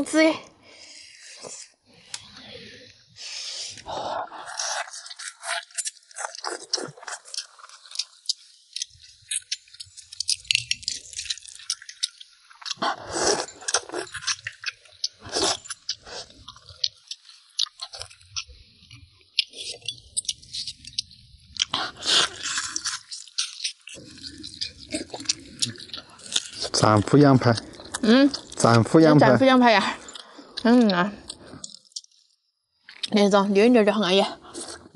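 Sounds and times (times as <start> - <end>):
wet mouth sounds: 3.4 - 29.2, 29.8 - 32.2, 34.3 - 34.9
chewing and biting: 3.6 - 33.1, 34.3 - 34.9.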